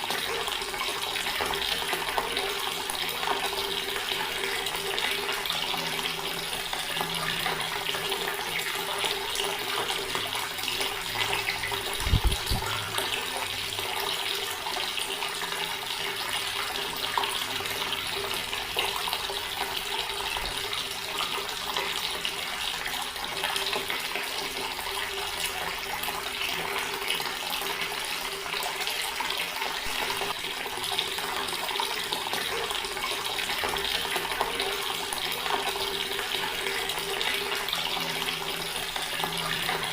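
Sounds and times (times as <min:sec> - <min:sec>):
tap water splashing into basin: 0:00.0 - 0:39.9.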